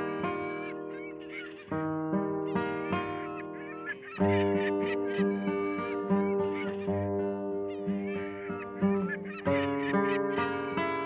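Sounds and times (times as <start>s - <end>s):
plucked string instrumental music: 0.0s - 11.0s.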